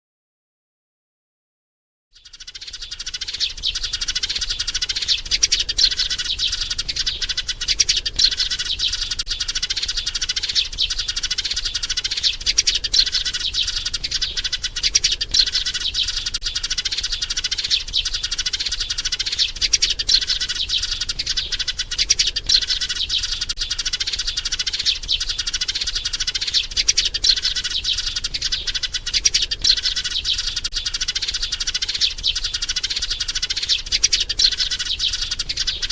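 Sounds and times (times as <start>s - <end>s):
sparrow chirping rapidly: 2.2s - 35.9s.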